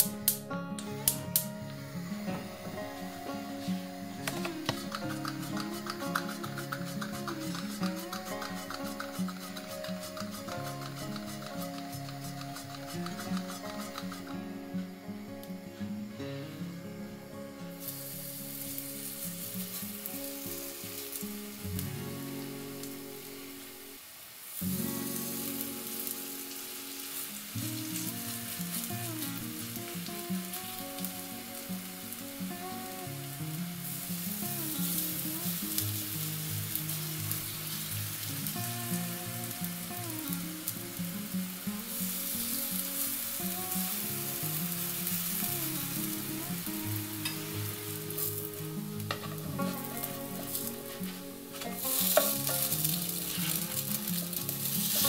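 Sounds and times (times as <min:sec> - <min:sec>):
batter sizzling in hot oil: 0:00.0 - 0:15.3, 0:17.8 - 0:55.0.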